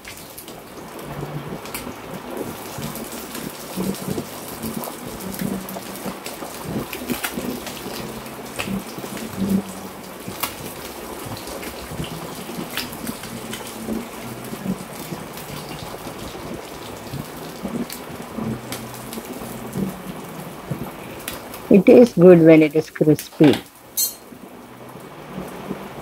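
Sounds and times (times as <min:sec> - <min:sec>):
fish frying in oil: 0:00.0 - 0:26.0.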